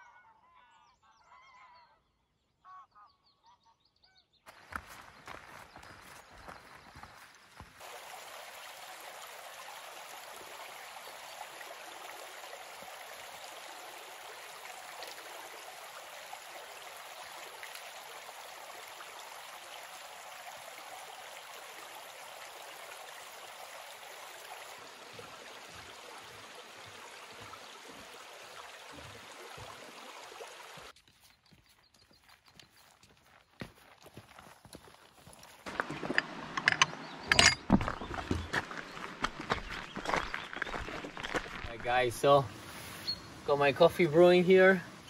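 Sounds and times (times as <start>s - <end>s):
stream rushing over stones: 4.5s - 31.0s, 35.1s - 45.0s.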